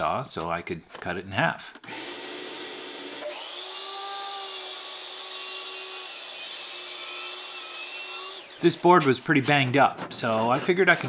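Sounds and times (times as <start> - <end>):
miter saw cutting wood: 1.8 - 11.0.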